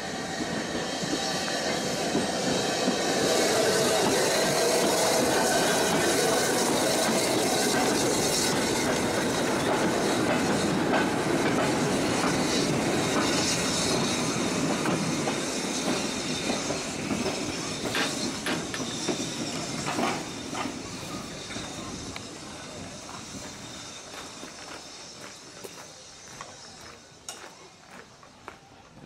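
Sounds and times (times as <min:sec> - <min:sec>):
train wheels clickety-clack: 0:00.0 - 0:29.0.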